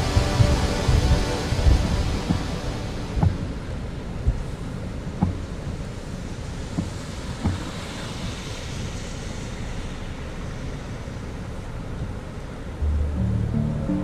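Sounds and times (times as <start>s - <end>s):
car road and tyre noise: 0.0s - 14.0s.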